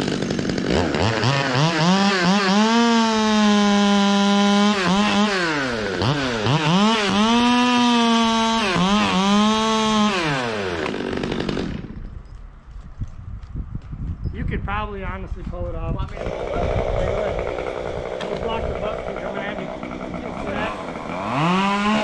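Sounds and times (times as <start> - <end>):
chainsaw revving and cutting: 0.0 - 12.1, 16.1 - 22.0.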